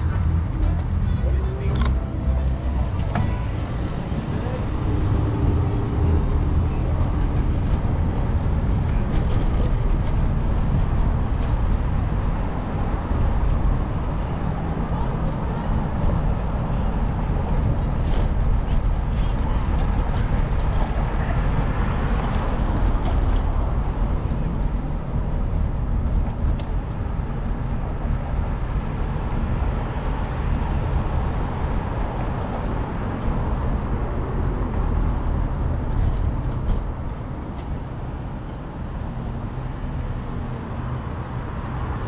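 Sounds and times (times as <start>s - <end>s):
city traffic noise: 0.0s - 42.0s
wind rumble on microphone: 0.0s - 42.0s.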